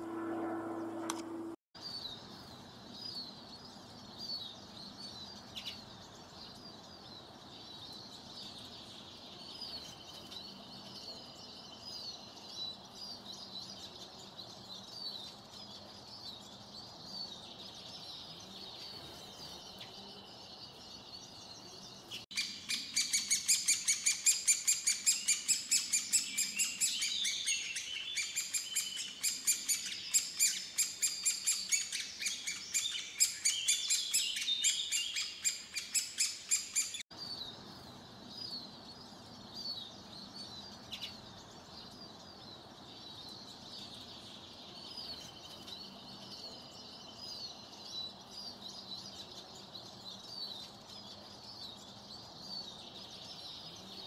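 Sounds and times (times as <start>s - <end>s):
small birds chirping: 1.8s - 54.0s.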